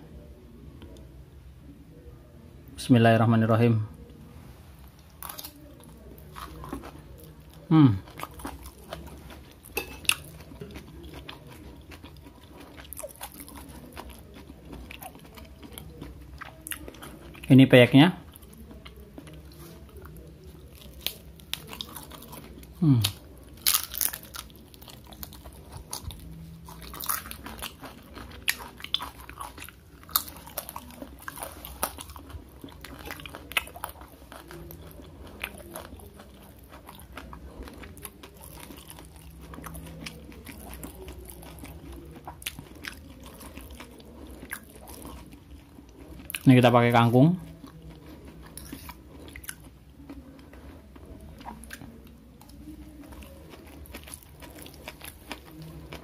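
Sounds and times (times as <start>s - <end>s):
chewing crunchy food: 4.8s - 56.0s.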